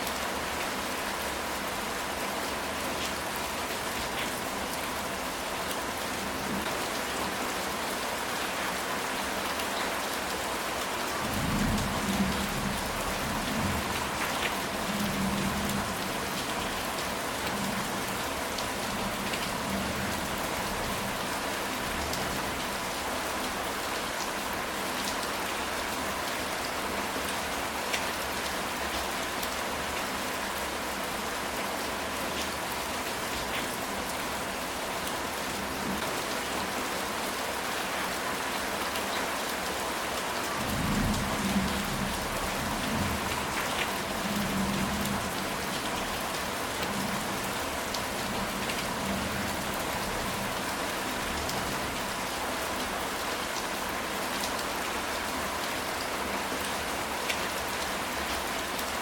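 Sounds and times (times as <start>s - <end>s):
rain on a tile roof: 0.0s - 59.0s.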